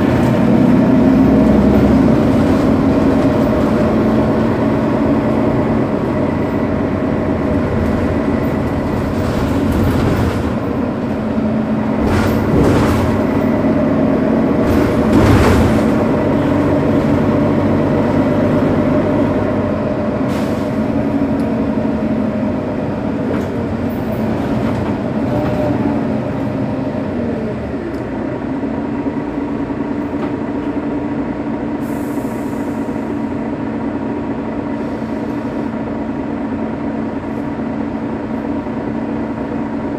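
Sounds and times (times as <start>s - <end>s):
bus diesel engine idling: 0.0s - 39.9s.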